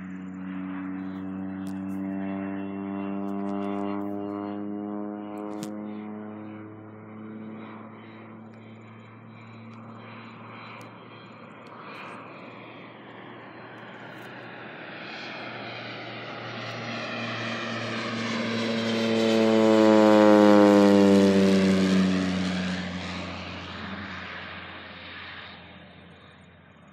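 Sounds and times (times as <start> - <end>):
propeller plane engine drone: 0.0 - 26.9.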